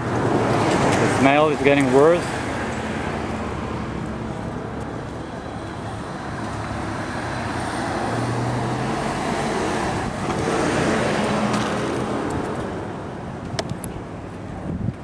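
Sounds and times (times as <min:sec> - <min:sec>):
vehicle passing on street: 0:00.0 - 0:15.0.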